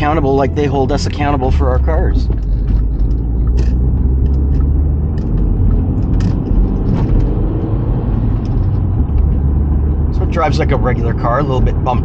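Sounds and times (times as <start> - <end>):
car engine drone: 0.0 - 12.0
road rumble: 0.0 - 12.0.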